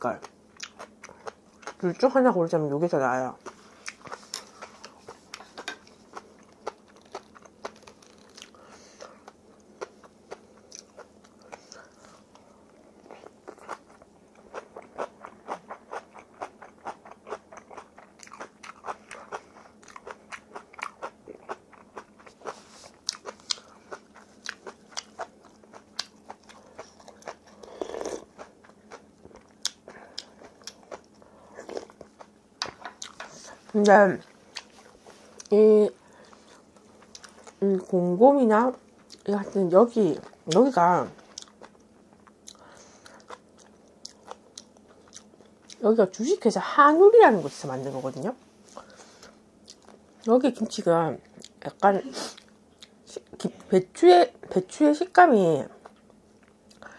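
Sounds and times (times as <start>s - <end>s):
chewing crunchy food: 0.2s - 2.1s, 3.4s - 37.9s, 38.7s - 46.2s, 48.6s - 50.4s, 51.2s - 53.5s, 55.7s - 56.9s.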